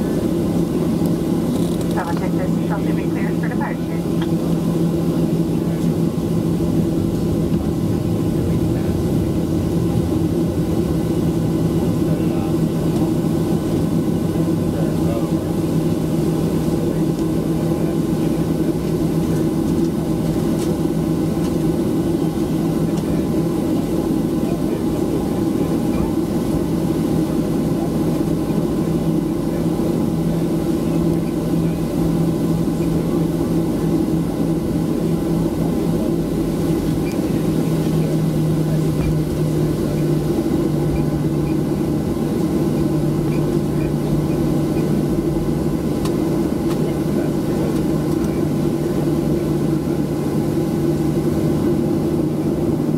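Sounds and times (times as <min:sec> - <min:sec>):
airplane cabin engine drone: 0:00.0 - 0:52.9.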